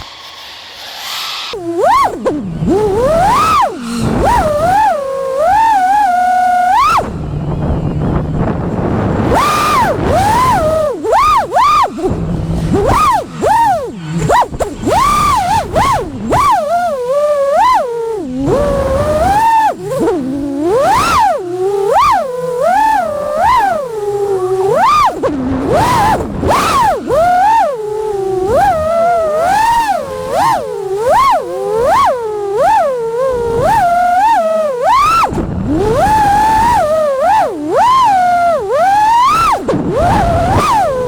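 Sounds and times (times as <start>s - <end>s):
drone motors whining: 0.0s - 41.0s.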